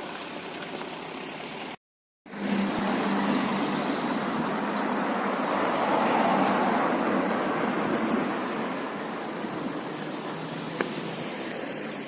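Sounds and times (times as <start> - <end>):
street traffic hum: 0.0 - 12.0.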